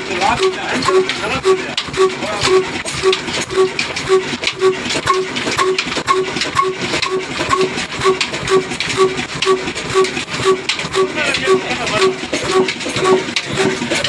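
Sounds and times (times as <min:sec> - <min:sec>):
diesel engine running slowly: 0:00.0 - 0:14.0.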